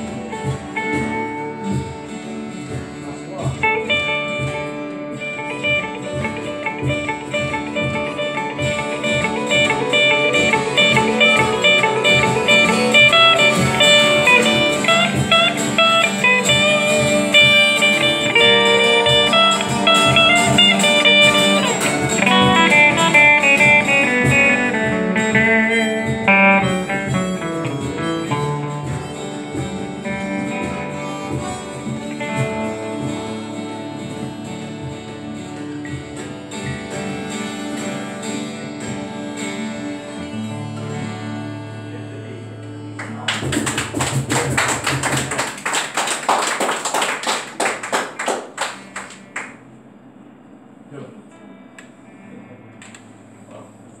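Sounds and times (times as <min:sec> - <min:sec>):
acoustic guitar picking: 0:00.0 - 0:54.0.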